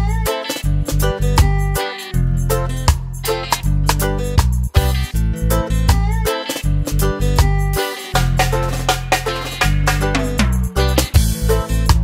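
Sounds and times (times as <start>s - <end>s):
music with plucked notes and bass: 0.0s - 12.0s.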